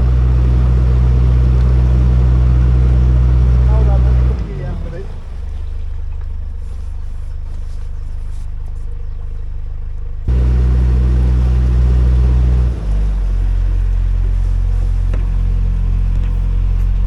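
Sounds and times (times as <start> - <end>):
boat diesel engine running: 0.0 - 17.0.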